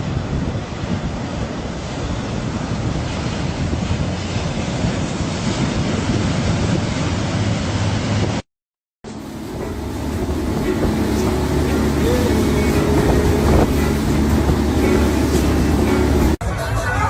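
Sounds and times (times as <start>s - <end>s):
waves and rough water: 0.0s - 8.4s, 9.1s - 17.0s
wind buffeting microphone: 0.0s - 8.4s, 9.1s - 16.4s.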